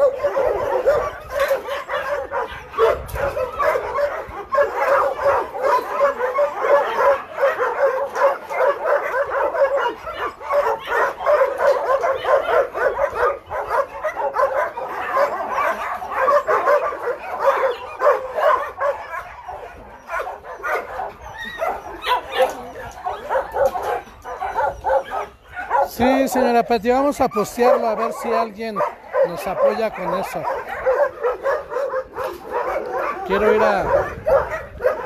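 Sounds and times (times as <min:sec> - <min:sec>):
many dogs barking: 0:00.0 - 0:35.0.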